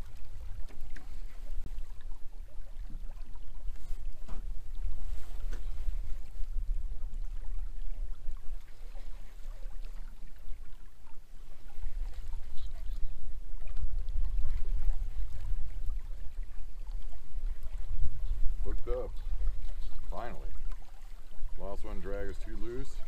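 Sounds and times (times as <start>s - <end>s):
water lapping against hull: 0.0s - 23.0s
wind buffeting microphone: 0.0s - 23.0s.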